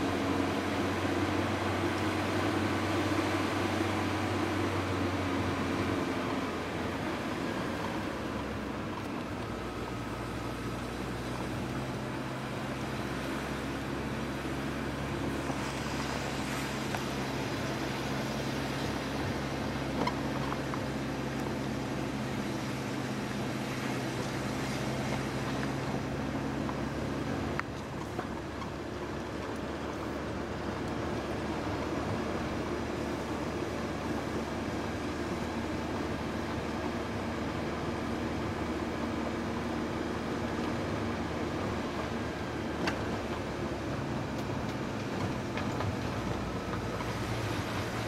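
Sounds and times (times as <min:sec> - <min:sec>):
car engine running: 0:00.0 - 0:48.0
tyre and road noise: 0:00.0 - 0:48.0.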